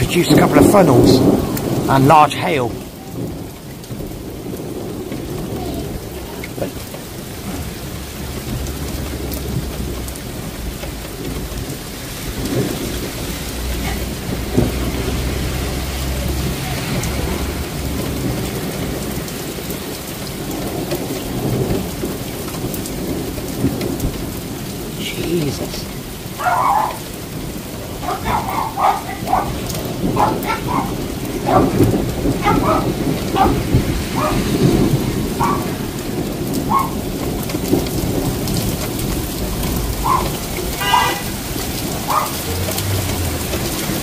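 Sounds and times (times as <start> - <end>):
heavy rain falling: 0.0 - 44.0
rolling thunder: 0.0 - 44.0.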